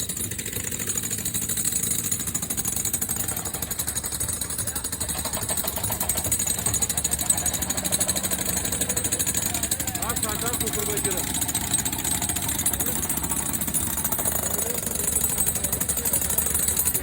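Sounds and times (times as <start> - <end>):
construction machine pulsing: 0.0 - 17.0.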